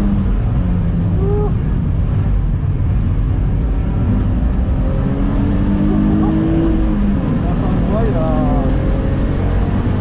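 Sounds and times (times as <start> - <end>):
race car engine drone: 0.0 - 10.0.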